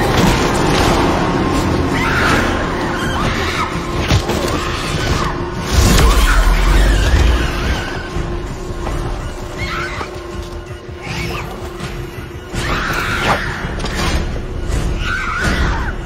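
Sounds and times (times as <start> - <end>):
dramatic orchestral score: 0.0 - 16.0.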